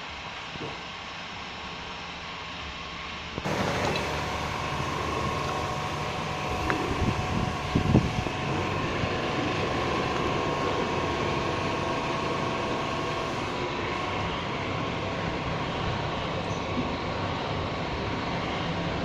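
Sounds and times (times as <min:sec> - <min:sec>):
diesel engine running: 0:03.4 - 0:19.0.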